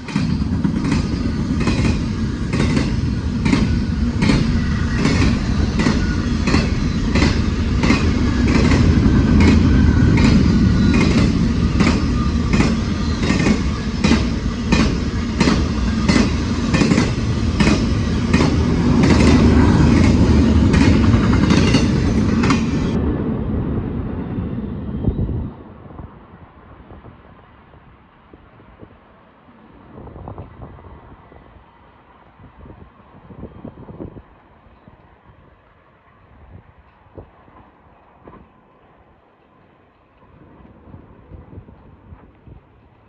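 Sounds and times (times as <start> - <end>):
freight train rumble: 0.0 - 43.0.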